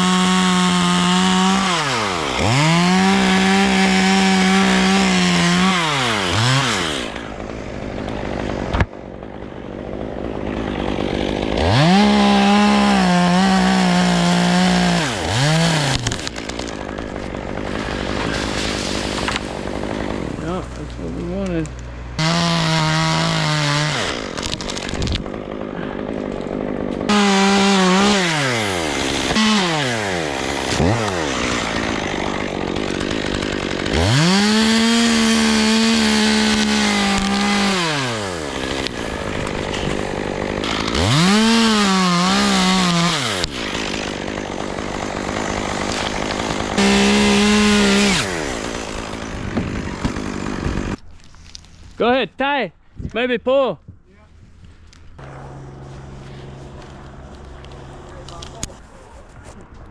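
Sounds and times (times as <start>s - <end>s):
chainsaw revving: 0.0s - 51.0s, 55.2s - 58.8s.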